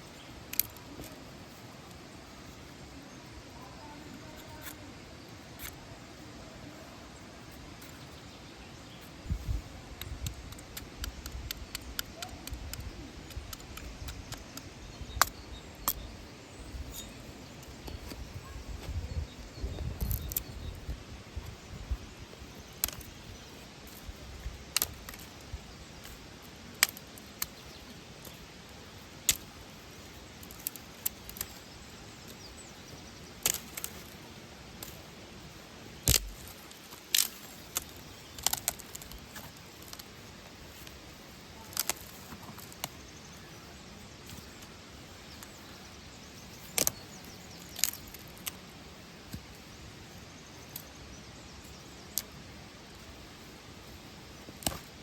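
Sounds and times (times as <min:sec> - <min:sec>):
faint steady hiss: 0:00.0 - 0:55.0
campfire crackling: 0:08.6 - 0:55.0.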